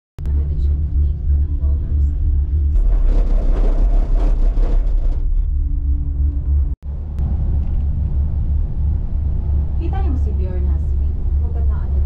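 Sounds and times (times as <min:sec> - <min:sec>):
gondola cabin rumble: 0:00.2 - 0:12.0.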